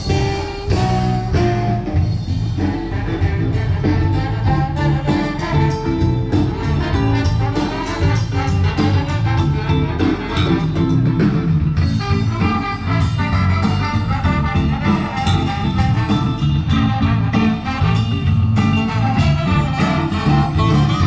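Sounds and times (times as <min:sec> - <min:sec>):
band playing jazzy swing: 0:00.0 - 0:21.0.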